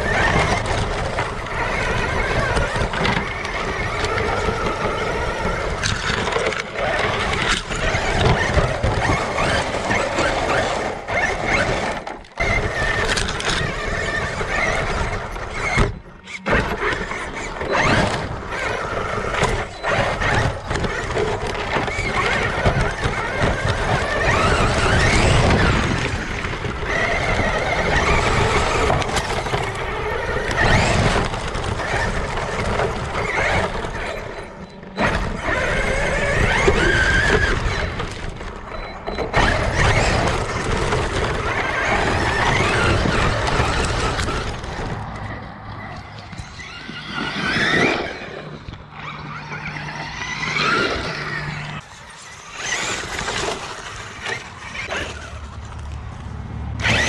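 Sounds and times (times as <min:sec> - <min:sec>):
electric motor whining: 0:00.0 - 0:56.1, 0:56.8 - 0:57.0
drivetrain and tyres rattling: 0:00.0 - 0:57.0.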